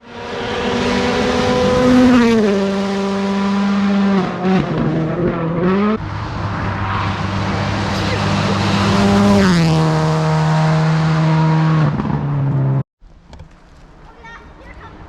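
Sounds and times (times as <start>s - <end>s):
rally car engine revving: 0.0s - 12.8s.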